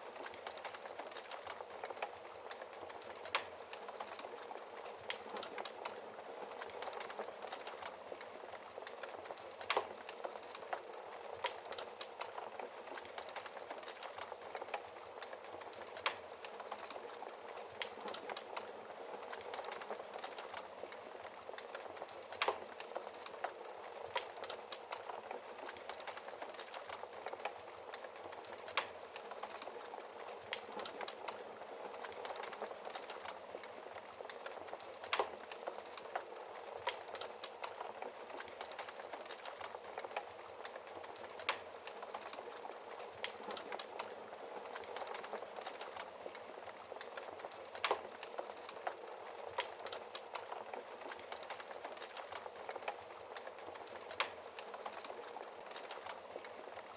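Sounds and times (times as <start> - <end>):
loud fire snaps: 0.0 - 56.9
wood fire crackling: 0.0 - 56.9.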